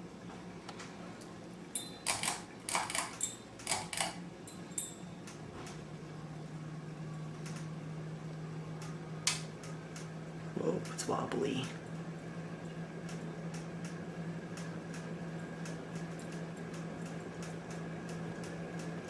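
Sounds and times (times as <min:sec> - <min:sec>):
ceiling fan motor hum: 0:00.0 - 0:19.0.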